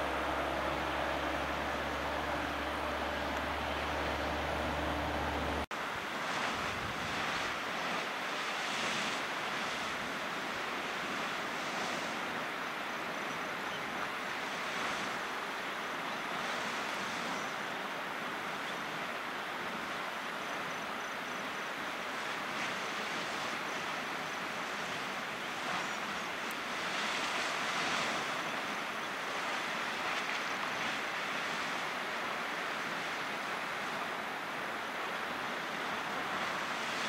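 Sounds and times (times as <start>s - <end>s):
geyser water rushing and splashing: 0.0s - 37.0s.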